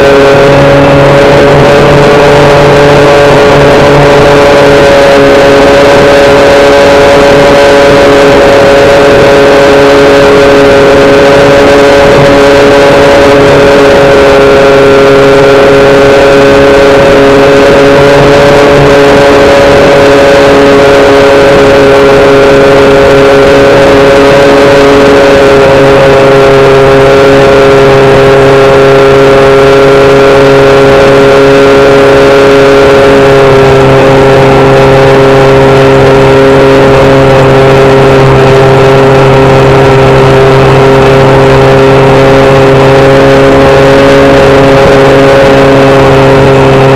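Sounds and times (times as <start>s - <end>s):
model plane motor and propeller drone: 0.0s - 46.9s.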